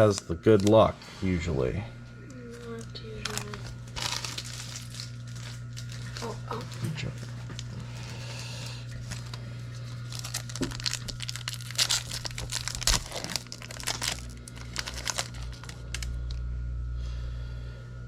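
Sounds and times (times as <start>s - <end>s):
card pack wrapper tearing: 0.0s - 0.8s, 2.6s - 16.4s.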